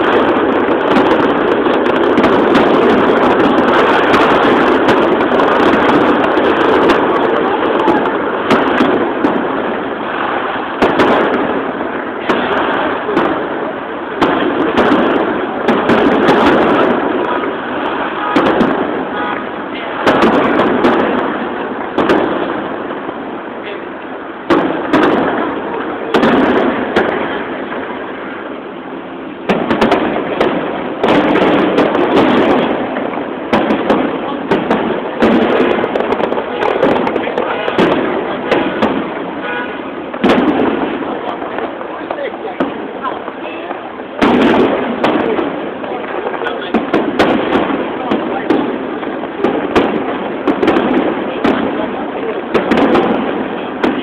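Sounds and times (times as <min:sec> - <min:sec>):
crowd voices: 0:00.0 - 0:54.0
fireworks banging: 0:00.0 - 0:54.0.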